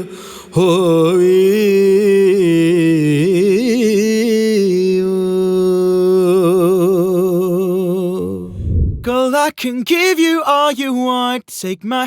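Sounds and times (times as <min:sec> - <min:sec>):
person singing with vibrato: 0:00.0 - 0:12.0.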